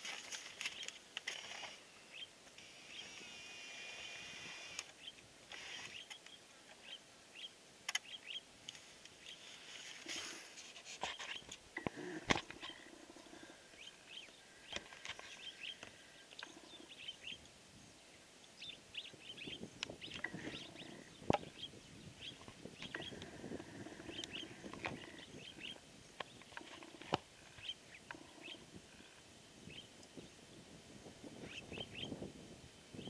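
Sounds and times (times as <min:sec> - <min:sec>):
small birds chirping: 0:00.6 - 0:30.6, 0:31.3 - 0:32.3.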